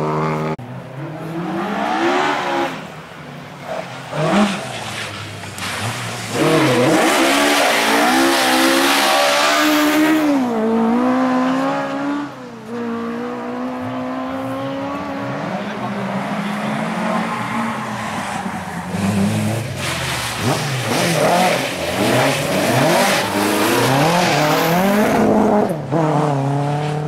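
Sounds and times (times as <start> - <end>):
rally car engine revving: 3.6 - 27.0.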